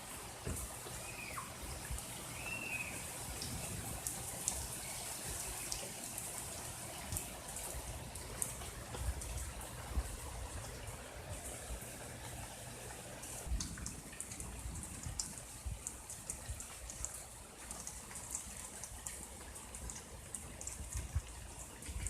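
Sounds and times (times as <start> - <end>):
water running: 0.0 - 18.8
heavy rain falling: 0.0 - 22.0.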